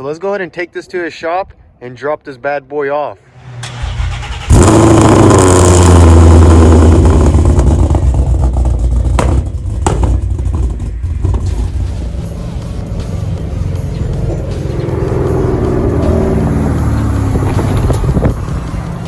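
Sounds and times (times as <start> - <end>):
vehicle engine accelerating: 3.3 - 19.0.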